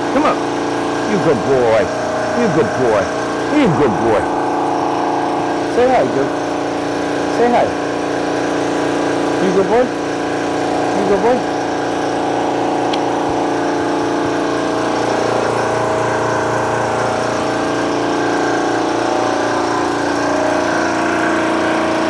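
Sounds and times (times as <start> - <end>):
air compressor running: 0.0 - 22.0.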